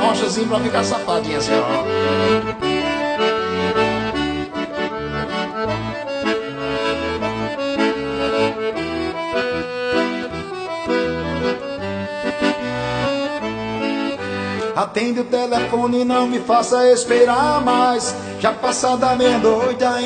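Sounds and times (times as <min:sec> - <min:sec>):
piano accordion melody: 0:00.0 - 0:20.0.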